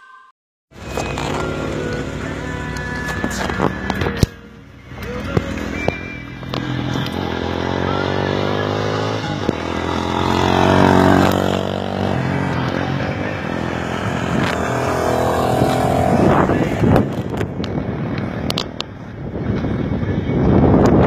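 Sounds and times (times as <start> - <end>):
motorcycle engines accelerating: 0.8 - 20.7.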